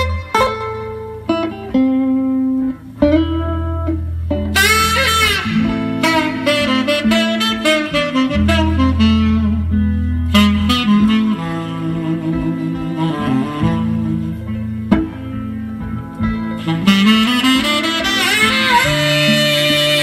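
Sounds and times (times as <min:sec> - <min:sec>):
blues recording on stereo: 0:00.0 - 0:20.0.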